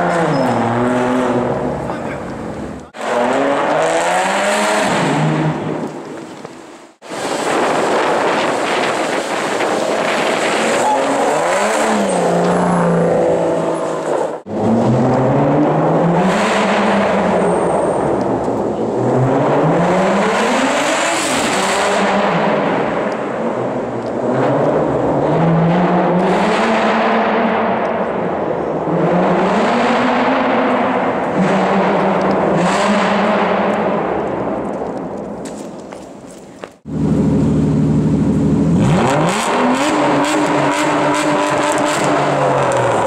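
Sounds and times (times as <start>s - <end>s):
car engine revving and accelerating: 0.0s - 2.0s, 3.0s - 5.8s, 8.3s - 18.0s, 18.8s - 34.2s, 36.9s - 43.0s.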